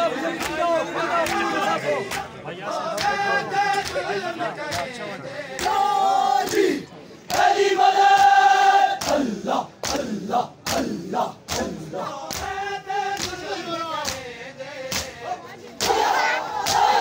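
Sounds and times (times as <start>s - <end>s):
crowd chanting: 0.0s - 17.0s
crowd shouting together: 0.0s - 17.0s
men slapping chests in unison: 0.2s - 17.0s.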